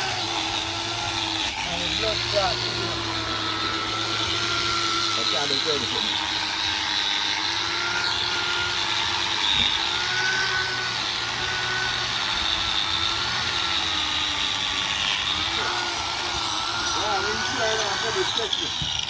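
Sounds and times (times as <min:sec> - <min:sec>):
motor whining: 0:00.0 - 0:19.0.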